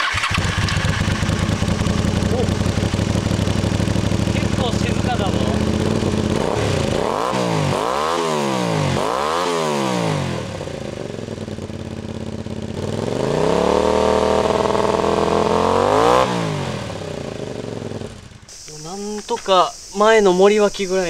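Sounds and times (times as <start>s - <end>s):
motorcycle engine idling: 0.0s - 9.4s, 10.0s - 18.6s
motorcycle engine revving: 0.0s - 18.6s.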